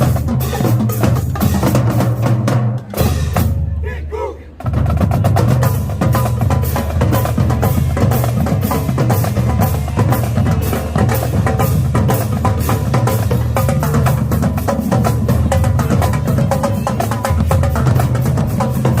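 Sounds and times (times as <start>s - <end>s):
bass drums: 0.0s - 3.8s, 4.6s - 19.0s.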